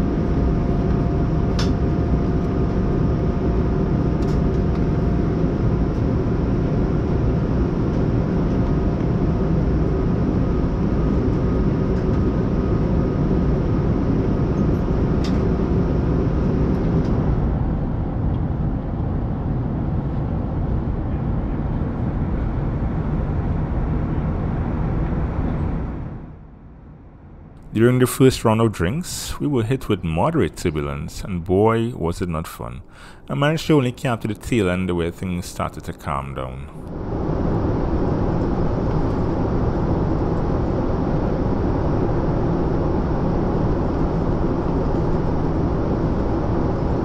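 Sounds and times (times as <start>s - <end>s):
airliner cabin rumble: 0.0s - 26.3s, 27.7s - 47.0s.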